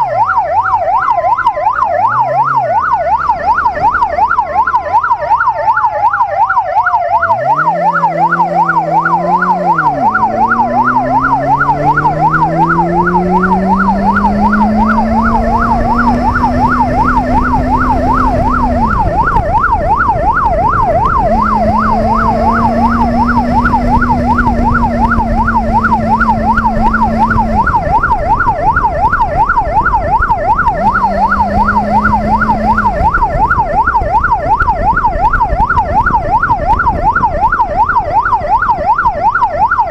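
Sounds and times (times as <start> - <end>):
electronic siren yelping: 0.0 - 39.9
motorcycle engine accelerating: 0.9 - 5.7, 7.0 - 37.4.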